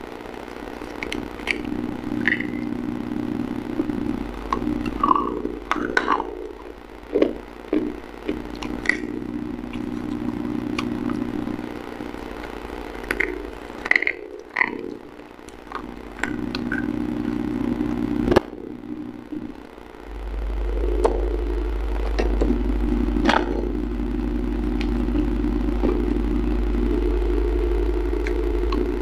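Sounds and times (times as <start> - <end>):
low droning hum: 0.0 - 29.0.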